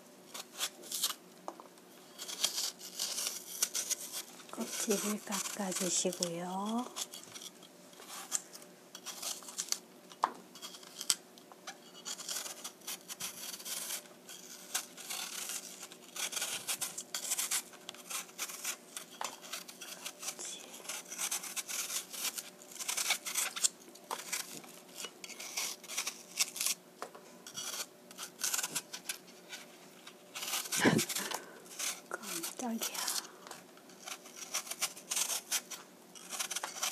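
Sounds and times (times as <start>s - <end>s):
knife scraping apple peel: 0.3s - 1.2s, 2.0s - 36.9s.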